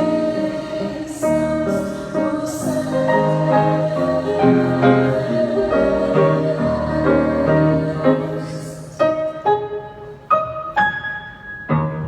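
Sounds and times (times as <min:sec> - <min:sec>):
piano hymn accompaniment: 0:00.0 - 0:12.0.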